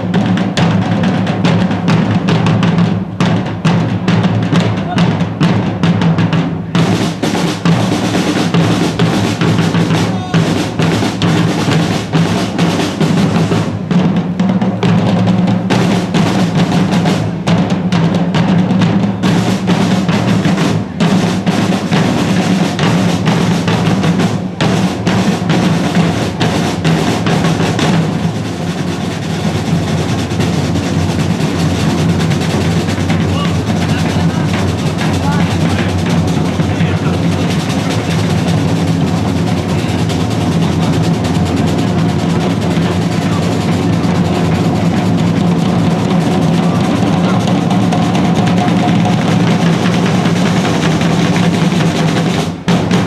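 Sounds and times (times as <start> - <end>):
parade drums playing with rolls: 0.0 - 53.0.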